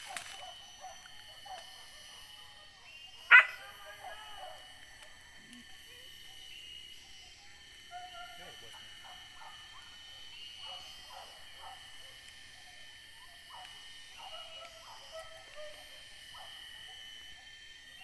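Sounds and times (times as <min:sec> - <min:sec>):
distant dogs yelping: 0:00.0 - 0:04.8, 0:07.1 - 0:17.6
forest insects droning: 0:00.0 - 0:18.0.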